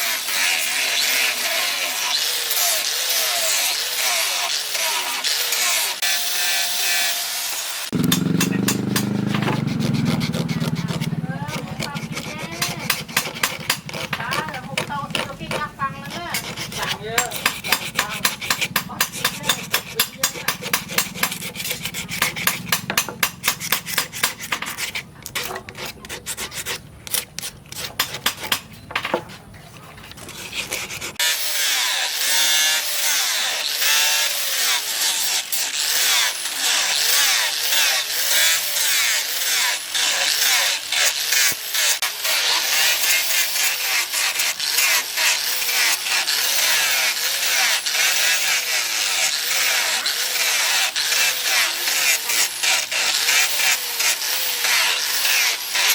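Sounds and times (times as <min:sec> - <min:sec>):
tool scraping steel knife: 0:00.0 - 0:55.9.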